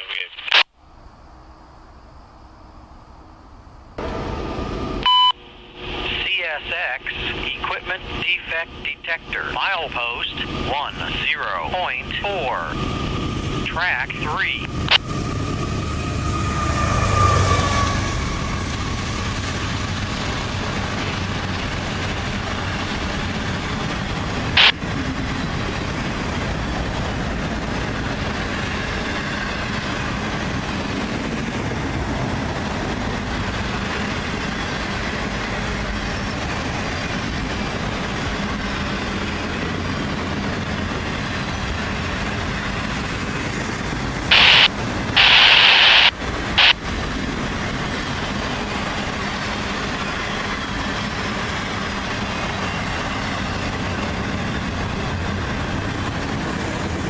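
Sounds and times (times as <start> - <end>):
freight train wheels rumbling on rails: 3.5 - 57.0.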